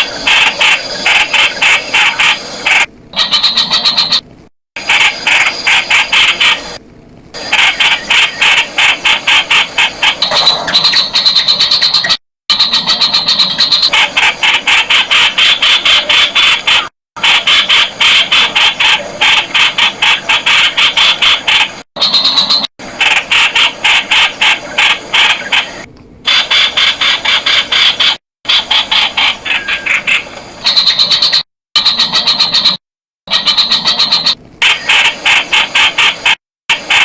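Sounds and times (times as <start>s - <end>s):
bird calling rapid sharp notes: 0.0s - 6.8s, 7.4s - 37.0s.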